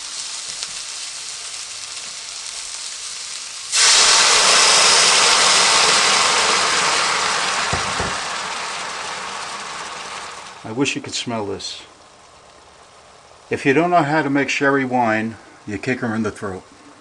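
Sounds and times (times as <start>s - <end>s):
mushrooms sizzling in a pan: 0.0s - 15.0s
loud hiss of frying and steam: 0.0s - 17.0s.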